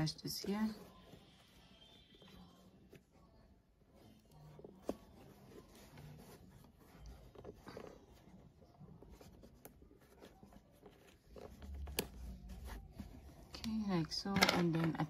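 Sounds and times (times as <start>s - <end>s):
yarn rubbing and rustling: 0.0s - 15.0s.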